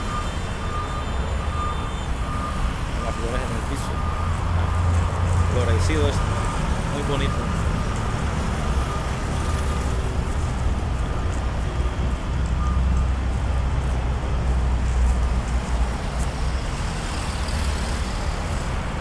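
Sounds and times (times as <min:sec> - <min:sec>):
low rumble of passing vehicles: 0:00.0 - 0:19.0.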